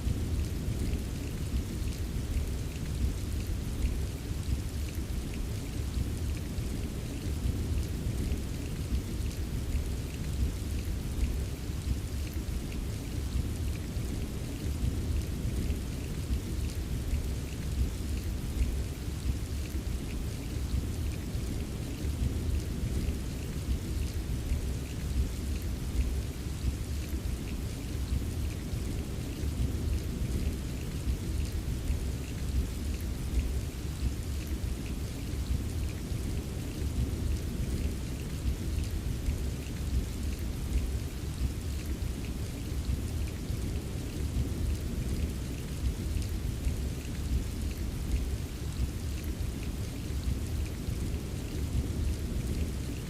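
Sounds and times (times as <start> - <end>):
rain patter: 0.0 - 53.0.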